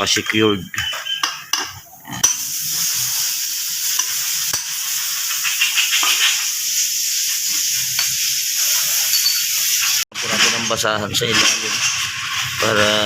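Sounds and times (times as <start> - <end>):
steady hiss: 2.2 - 13.0.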